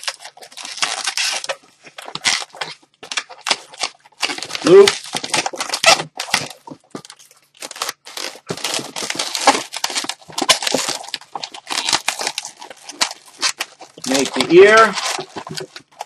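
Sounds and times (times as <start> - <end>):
balloons squeaking and rubbing: 0.0 - 16.0.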